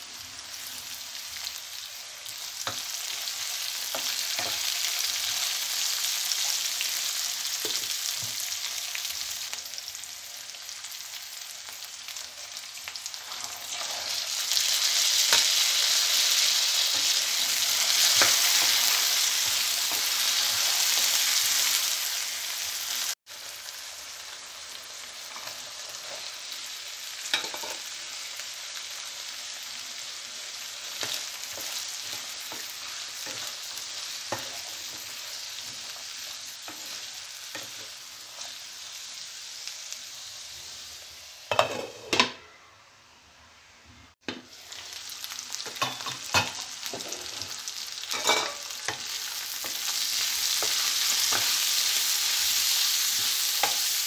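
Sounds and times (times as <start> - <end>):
vegetables sizzling in oil: 0.0 - 42.3, 44.2 - 54.0.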